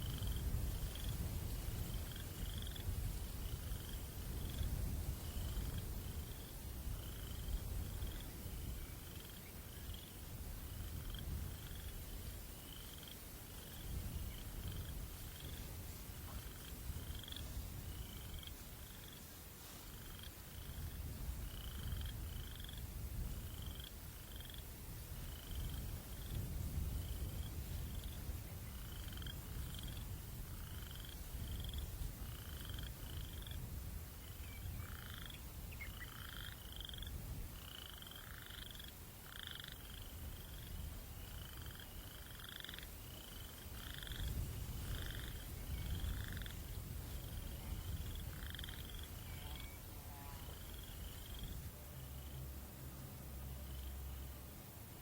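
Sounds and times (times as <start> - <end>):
low wind rumble: 0.0 - 55.0.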